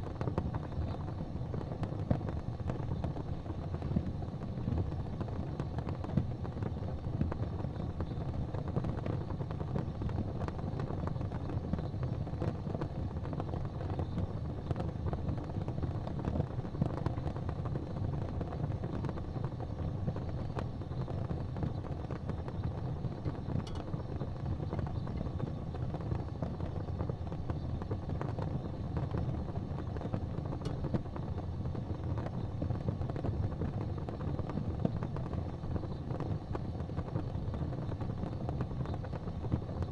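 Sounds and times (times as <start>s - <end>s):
faint fire pops: 0.0s - 39.9s
low roar of flames: 0.0s - 39.9s.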